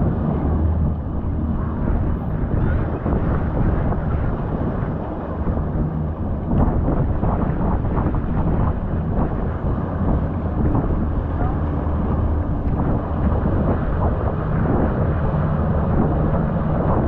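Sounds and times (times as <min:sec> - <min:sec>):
motorboat engine running: 0:00.0 - 0:17.0
water rushing along hull: 0:00.0 - 0:17.0
wind buffeting microphone: 0:00.0 - 0:17.0.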